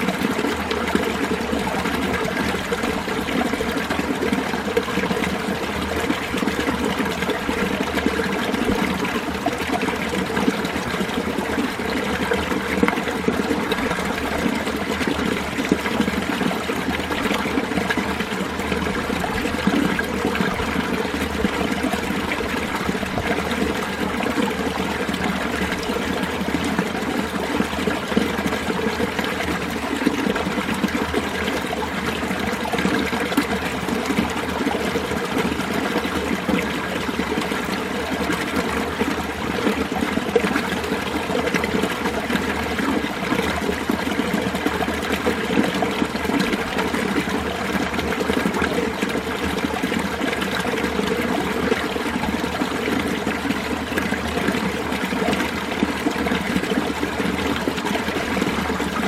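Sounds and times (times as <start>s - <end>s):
water running over rocks: 0.0s - 59.0s.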